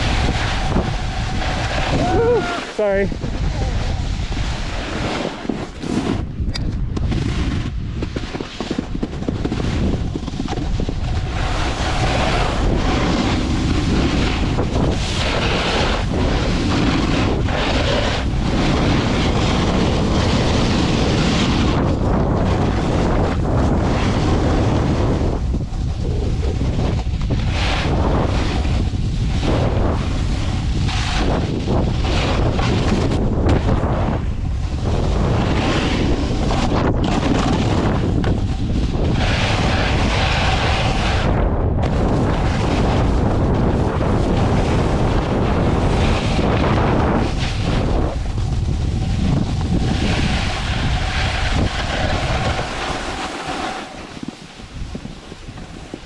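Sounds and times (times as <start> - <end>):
snowboard sliding on snow: 0.0 - 56.0
wind buffeting microphone: 0.0 - 56.0.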